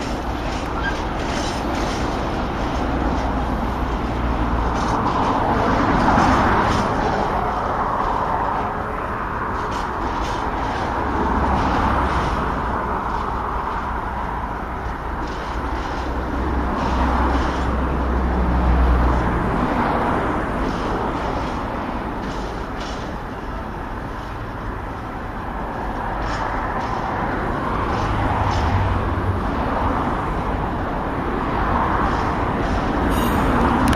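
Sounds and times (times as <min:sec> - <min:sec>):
freight train rumbling past: 0:00.0 - 0:33.9
wheels clanking over rail joints: 0:00.0 - 0:33.9.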